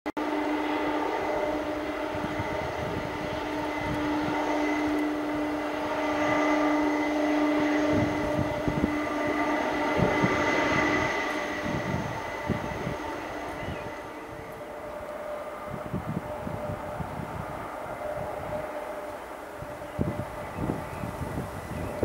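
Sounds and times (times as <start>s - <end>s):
jet engines whining and rushing: 0.2s - 22.0s.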